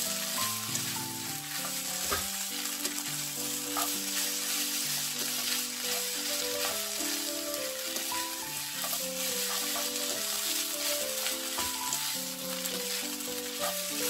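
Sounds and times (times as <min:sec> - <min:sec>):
background music with held notes: 0:00.0 - 0:14.0
food sizzling in oil: 0:00.0 - 0:14.0
spatula stirring in pan: 0:00.0 - 0:14.0.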